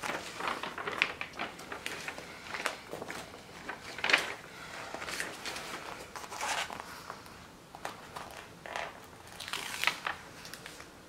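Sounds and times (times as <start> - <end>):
plastic film rustling and crinkling: 0.0 - 6.9, 7.8 - 11.0.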